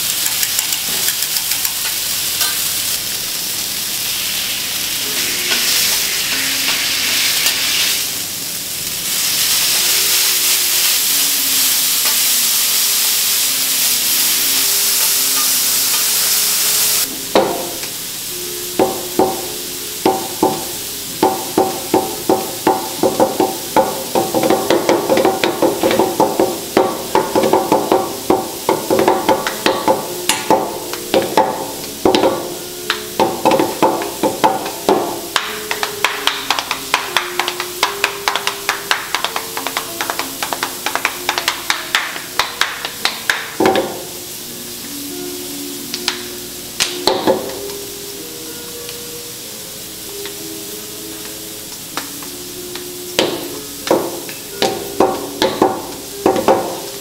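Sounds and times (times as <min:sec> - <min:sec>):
food sizzling on griddle: 0:00.0 - 0:57.0.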